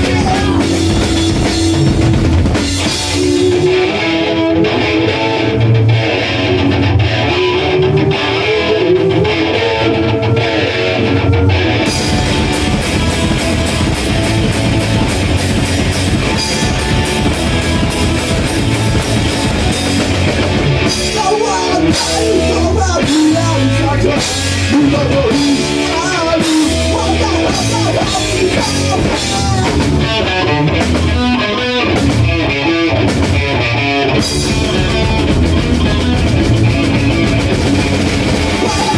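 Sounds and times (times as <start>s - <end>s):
drum kit: 0.0s - 5.7s, 11.0s - 38.9s
electric guitar: 0.0s - 38.9s.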